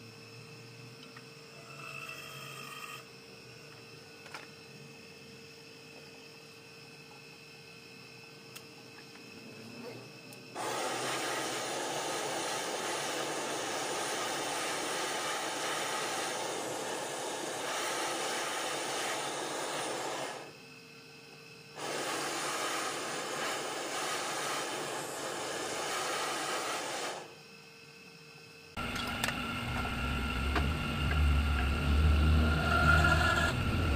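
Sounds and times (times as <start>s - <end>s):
gas torch burning: 3.4s - 33.9s.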